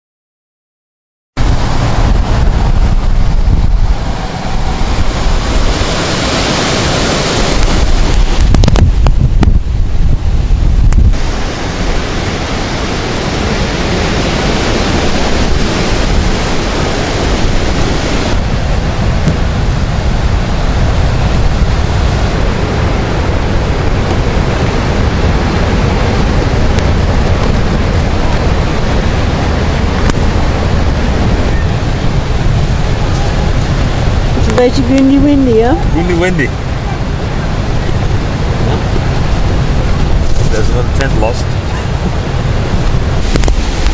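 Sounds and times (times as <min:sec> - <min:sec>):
storm wind buffeting a tent: 0:01.4 - 0:43.9.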